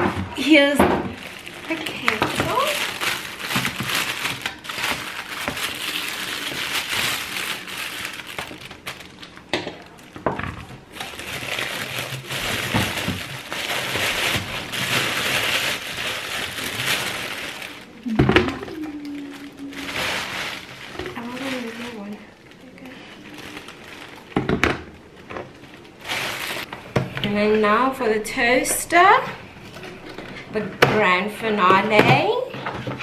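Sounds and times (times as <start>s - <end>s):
plastic bag crinkling: 0.3s - 26.8s.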